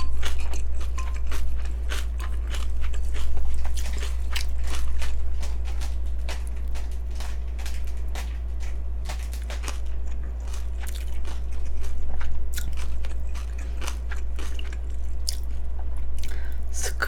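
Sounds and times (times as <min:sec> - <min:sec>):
chewing crunchy food: 0:00.0 - 0:16.9
steady low hum: 0:00.0 - 0:17.0.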